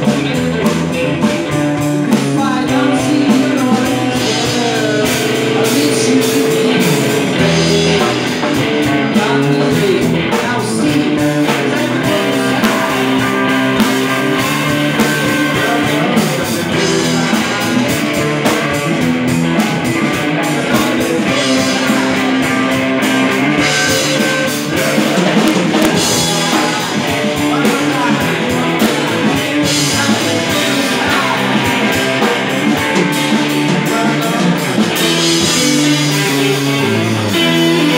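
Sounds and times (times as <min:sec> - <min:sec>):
drum kit with cymbals: 0:00.0 - 0:37.9
electric guitar: 0:00.0 - 0:37.9
man singing into a microphone: 0:00.0 - 0:37.9.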